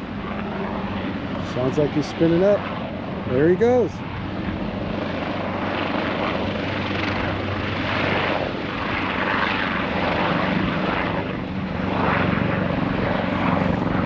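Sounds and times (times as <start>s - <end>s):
helicopter engine and rotor hum: 0.0s - 14.0s.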